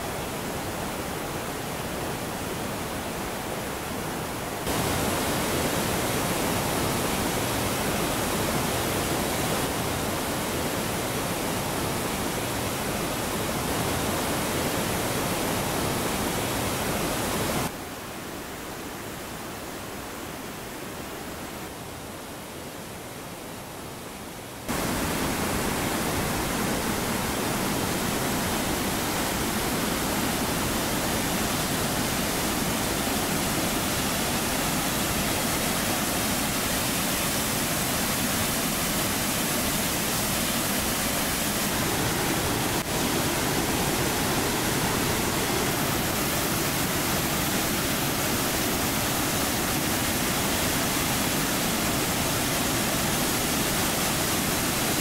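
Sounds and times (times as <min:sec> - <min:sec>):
waterfall rushing: 0:00.0 - 0:17.7, 0:24.6 - 0:55.0.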